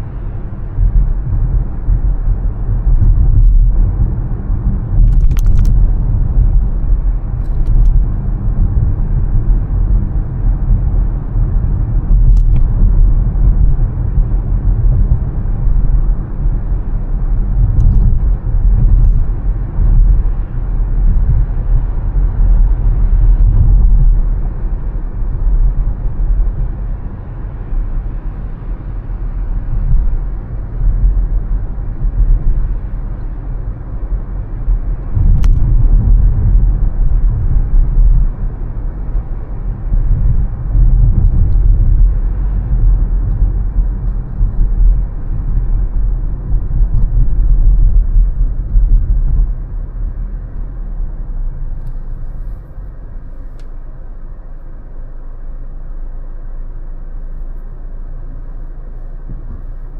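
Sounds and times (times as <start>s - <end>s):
car driving rumble: 0.0s - 59.9s.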